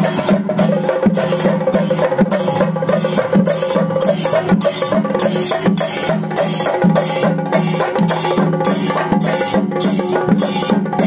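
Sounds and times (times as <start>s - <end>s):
drum ensemble playing: 0.0s - 11.0s.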